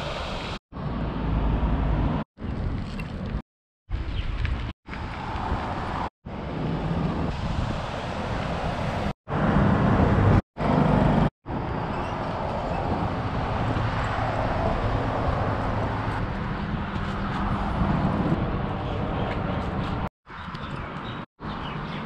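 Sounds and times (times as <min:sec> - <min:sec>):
wind and road noise rushing: 0:00.0 - 0:21.9.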